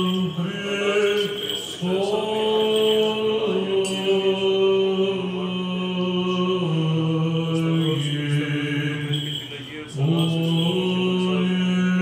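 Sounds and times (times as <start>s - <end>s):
man chanting long notes: 0.0s - 12.0s.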